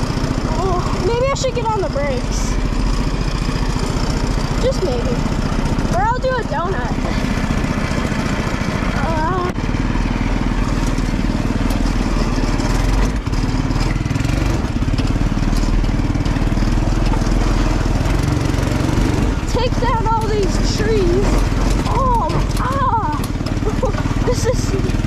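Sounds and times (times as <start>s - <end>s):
go-kart engine running: 0.0s - 25.0s.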